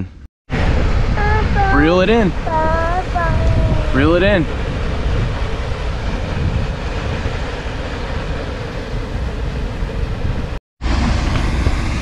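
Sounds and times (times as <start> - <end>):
wind buffeting microphone: 0.5 - 12.0.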